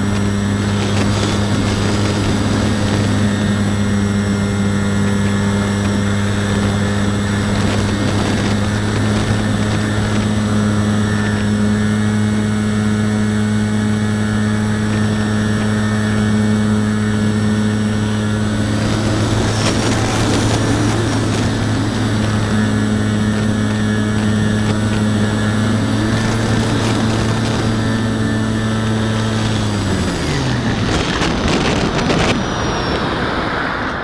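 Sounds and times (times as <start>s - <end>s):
electric motor and propeller: 0.0s - 34.0s
rush of air: 0.0s - 34.0s.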